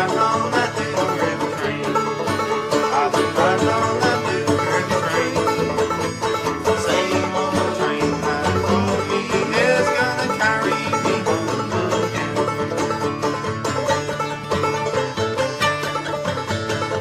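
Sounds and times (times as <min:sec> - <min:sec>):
banjo picking: 0:00.0 - 0:17.0.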